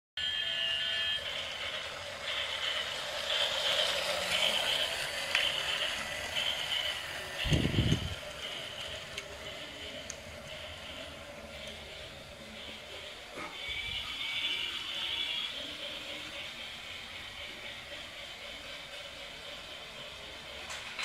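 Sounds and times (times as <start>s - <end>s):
toy steam train motor hum: 0.2s - 21.0s.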